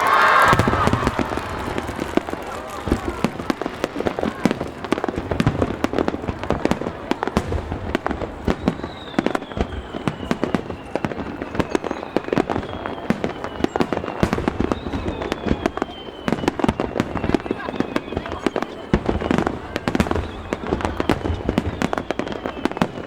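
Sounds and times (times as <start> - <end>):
firework whistle gliding down: 0.0 - 5.8, 6.6 - 23.0
fireworks bangs and crackles: 0.0 - 23.0.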